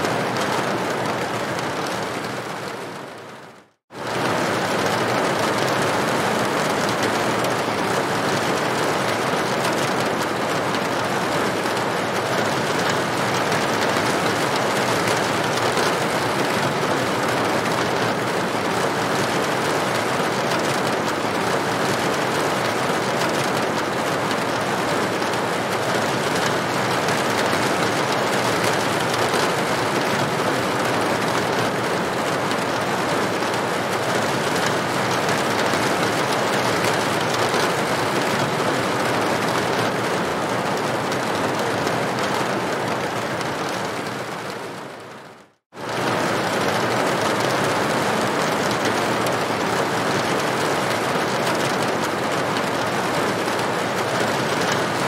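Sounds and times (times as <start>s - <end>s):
rain on a tin roof: 0.0s - 55.0s.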